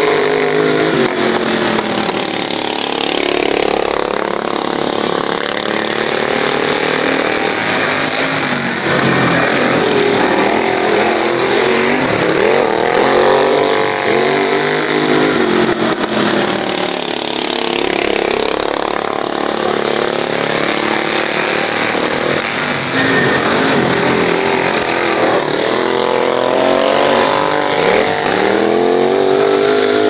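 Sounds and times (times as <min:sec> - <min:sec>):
racing lawn mower engines: 0:00.0 - 0:30.0.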